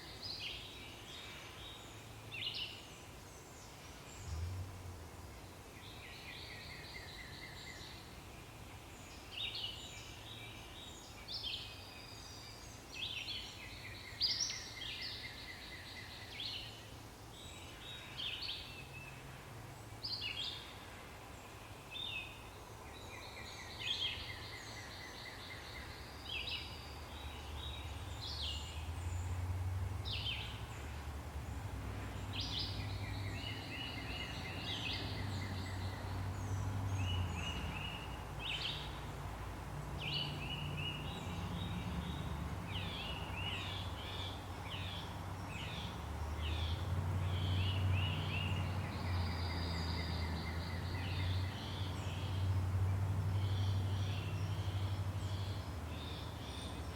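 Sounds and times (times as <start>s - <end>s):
songbirds singing: 0.0s - 56.9s.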